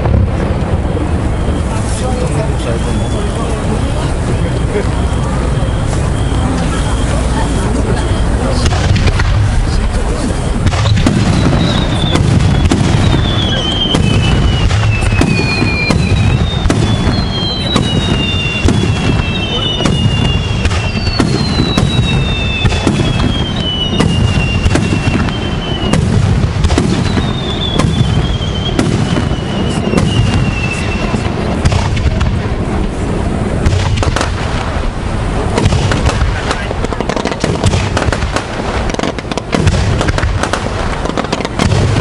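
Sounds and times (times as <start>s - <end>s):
fireworks bangs and crackles: 0.0s - 42.0s
rumble of firework bursts: 0.0s - 42.0s
falling firework whistles: 1.0s - 42.0s.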